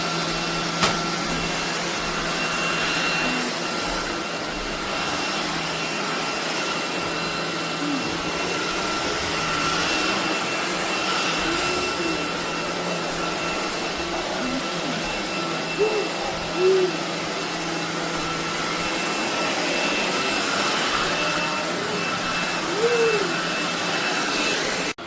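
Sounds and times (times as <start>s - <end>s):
stick vacuum running: 0.0s - 25.0s.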